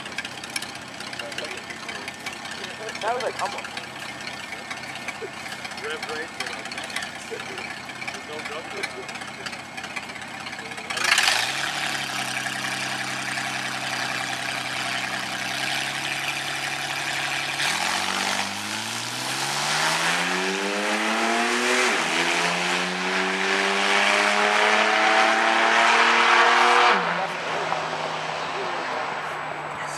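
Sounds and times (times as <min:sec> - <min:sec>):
drag racing engine accelerating: 0:00.0 - 0:29.9.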